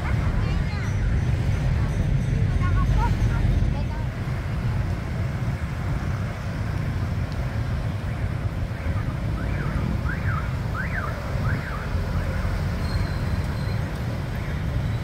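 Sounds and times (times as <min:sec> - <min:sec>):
motorbike traffic rumble: 0:00.0 - 0:15.0.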